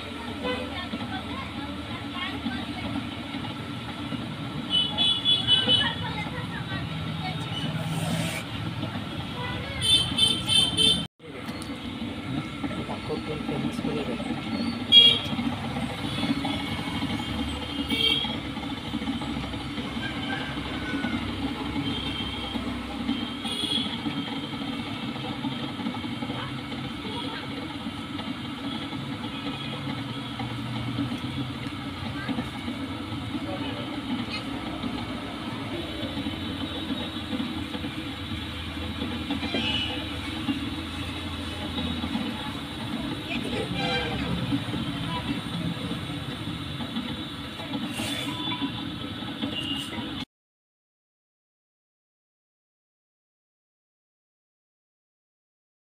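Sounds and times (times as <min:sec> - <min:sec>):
low mechanical hum: 0:00.0 - 0:50.2.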